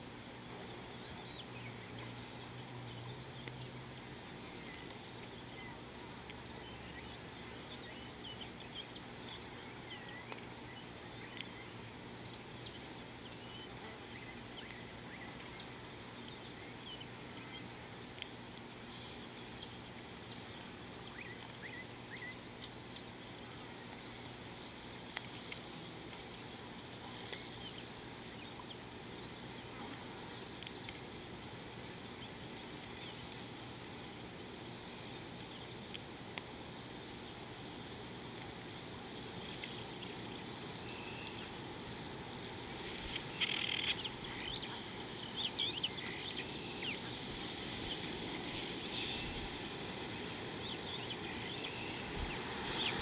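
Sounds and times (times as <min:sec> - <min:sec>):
outdoor background noise: 0:00.0 - 0:53.0
birds chirping: 0:00.6 - 0:31.0, 0:38.6 - 0:41.7, 0:43.0 - 0:53.0.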